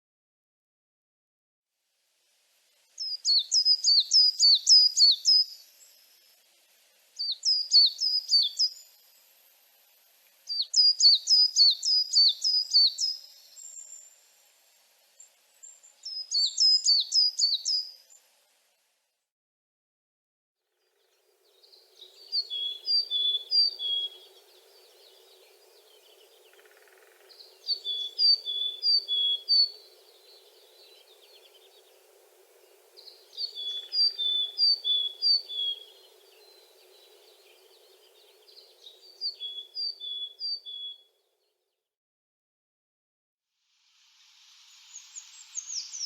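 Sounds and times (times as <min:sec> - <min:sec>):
faint background noise: 0:01.7 - 0:19.3, 0:20.6 - 0:41.7, 0:43.5 - 0:46.0.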